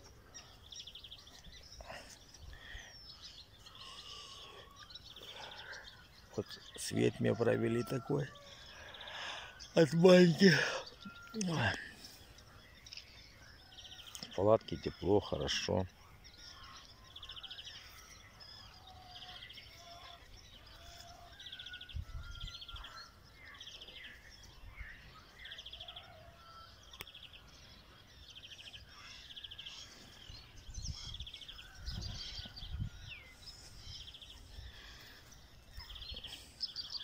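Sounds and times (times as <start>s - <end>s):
birds singing: 0.0s - 37.0s.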